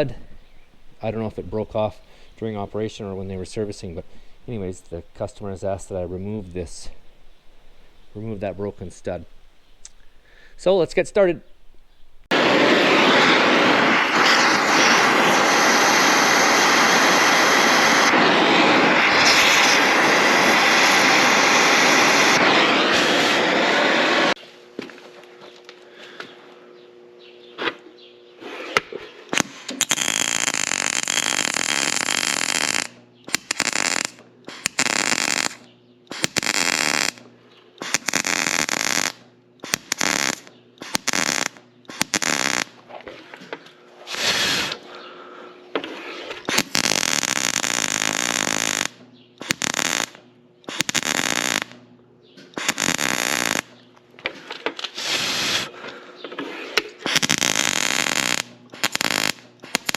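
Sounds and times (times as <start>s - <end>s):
arc welding crackling and sizzling: 0.0s - 11.4s, 12.2s - 24.4s, 28.4s - 43.0s, 45.8s - 51.9s, 52.5s - 53.8s, 54.4s - 55.7s, 56.5s - 59.9s.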